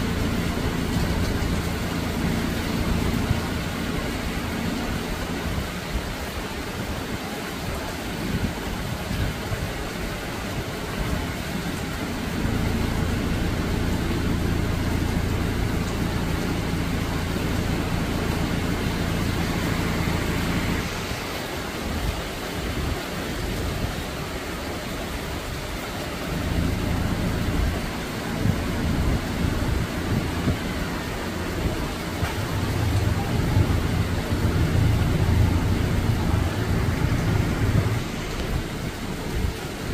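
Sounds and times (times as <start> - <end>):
low engine hum: 0.0 - 39.9
rain falling on leaves: 0.0 - 39.9.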